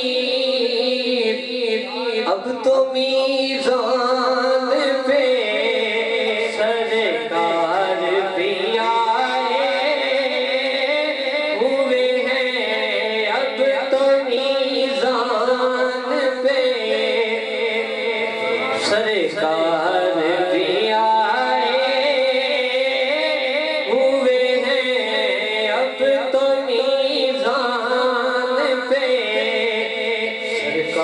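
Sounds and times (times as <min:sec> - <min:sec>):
man singing devotional verse: 0:00.0 - 0:31.0.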